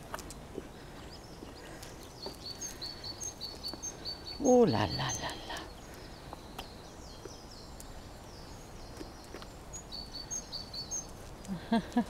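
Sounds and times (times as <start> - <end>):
faint background noise: 0.0 - 12.0
songbird chirping: 0.0 - 12.0.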